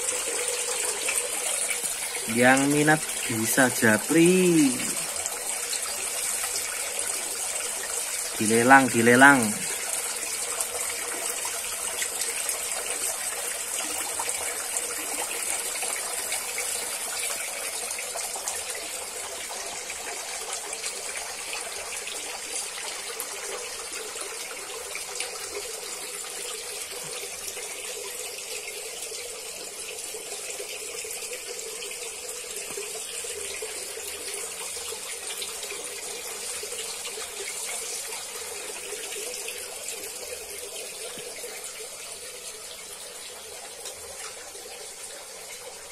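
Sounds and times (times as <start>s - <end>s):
water pouring into a pond: 0.0s - 45.9s.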